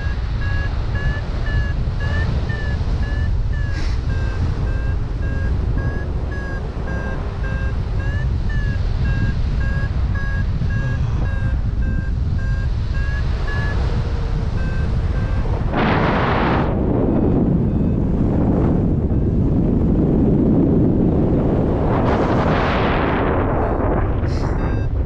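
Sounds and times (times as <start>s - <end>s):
variometer beeping: 0.0s - 22.6s, 23.6s - 25.0s
wind noise on microphone: 0.0s - 25.0s.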